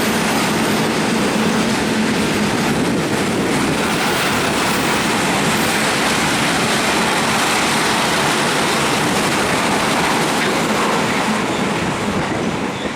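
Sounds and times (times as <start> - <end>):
freight train wheels rumbling on rail: 0.0 - 12.9.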